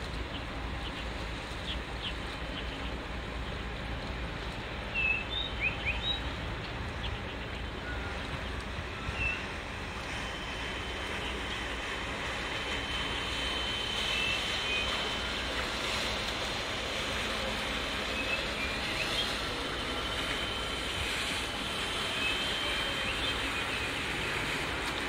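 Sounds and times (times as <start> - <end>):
water: 0.0 - 25.0
wind: 0.0 - 25.0.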